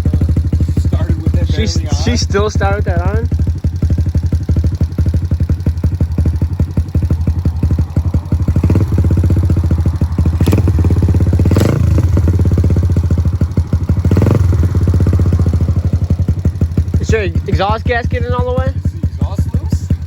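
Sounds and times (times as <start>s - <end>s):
pit bike engine revving: 0.0s - 20.0s.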